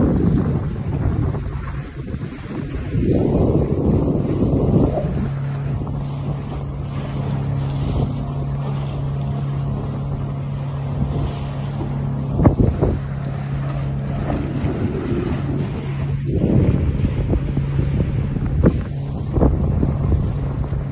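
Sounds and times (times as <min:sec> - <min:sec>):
boat engine droning: 0:00.0 - 0:20.9
water washing past hull: 0:00.0 - 0:20.9
wind noise on microphone: 0:00.0 - 0:20.9.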